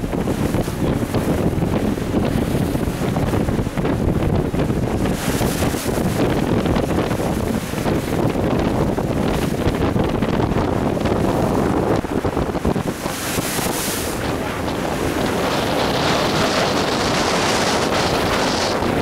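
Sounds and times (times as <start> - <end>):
boat and water rumbling: 0.0 - 19.0
wind buffeting microphone: 0.0 - 19.0.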